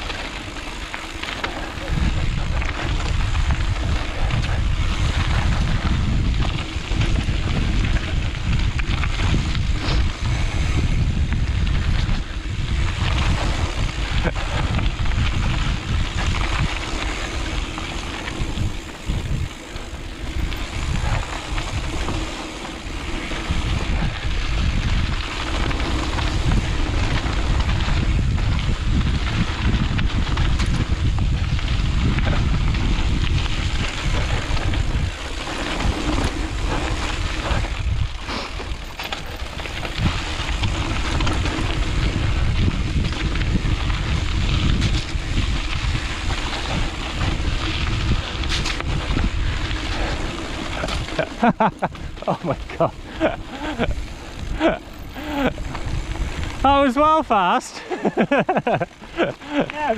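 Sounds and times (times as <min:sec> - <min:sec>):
tyre and trail noise: 0:00.0 - 0:59.9
wind rushing over microphone: 0:00.0 - 0:59.9.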